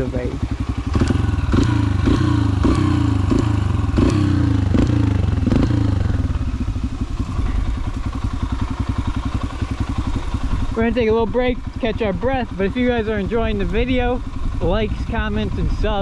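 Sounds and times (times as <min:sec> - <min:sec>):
motorbike engine revving: 0:00.0 - 0:16.0.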